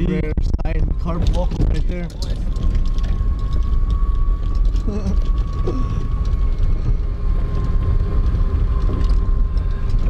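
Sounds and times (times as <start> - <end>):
golf cart driving: 0.4 - 10.0.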